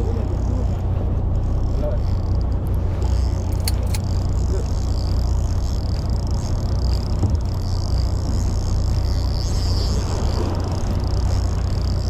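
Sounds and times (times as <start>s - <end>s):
boat engine humming: 0.0s - 12.0s
hull and sea noise: 0.0s - 12.0s.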